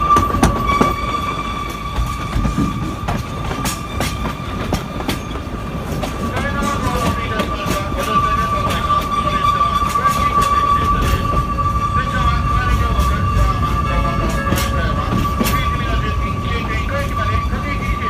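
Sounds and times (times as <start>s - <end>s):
high-pitched wheel squeal: 0.0s - 5.4s, 8.0s - 18.0s
train low running rumble: 0.0s - 18.0s.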